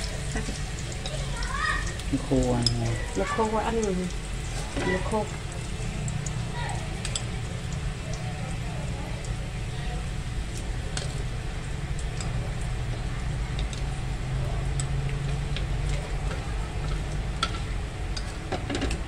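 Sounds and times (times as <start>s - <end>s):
chopsticks clicking against pan: 0.0s - 9.5s, 10.4s - 19.0s
meat sizzling in oil: 0.0s - 19.0s.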